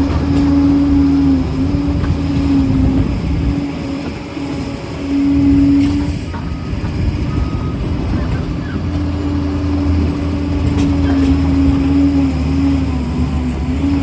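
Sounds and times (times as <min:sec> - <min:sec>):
diesel engine running: 0:00.0 - 0:14.0
steady high whine: 0:00.0 - 0:14.0.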